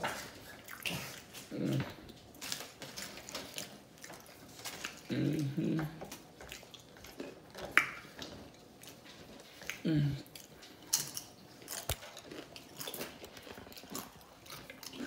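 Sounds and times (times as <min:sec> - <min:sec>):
person chewing with mouth smacks: 0:00.0 - 0:15.0.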